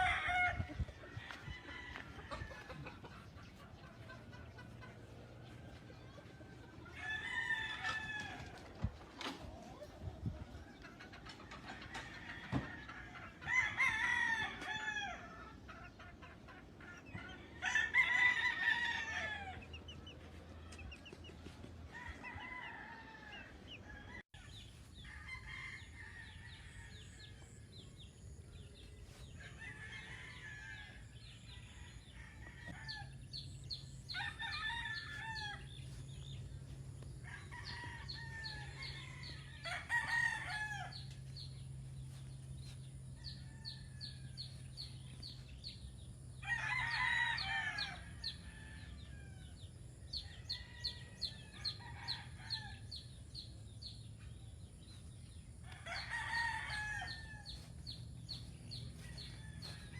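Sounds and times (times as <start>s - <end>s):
roosters crowing: 0.0s - 54.0s, 54.6s - 59.9s.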